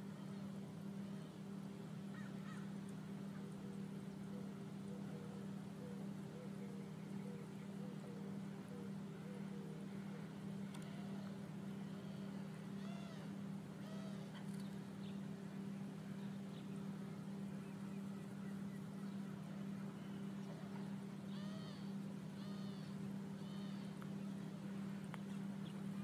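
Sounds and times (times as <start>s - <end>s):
steady low hum: 0.0s - 26.0s
bird calls: 2.1s - 26.0s.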